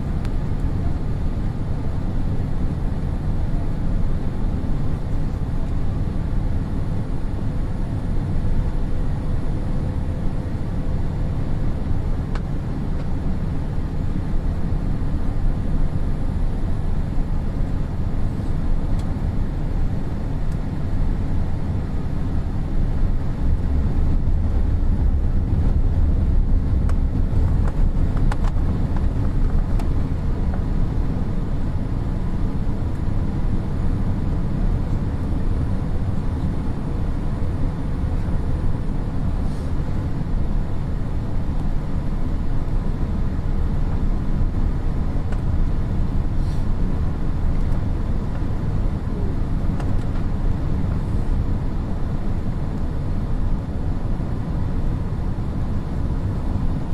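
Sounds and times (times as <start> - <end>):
airliner cabin rumble: 0.0 - 56.9.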